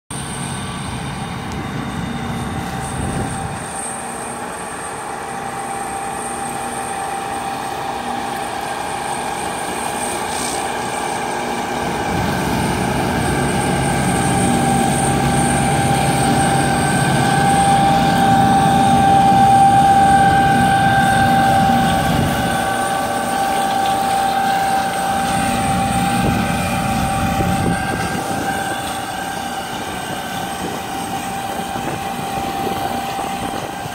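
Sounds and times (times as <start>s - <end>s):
flail mulcher rotor whine: 0.1s - 33.9s
tractor engine rumble: 0.1s - 33.9s.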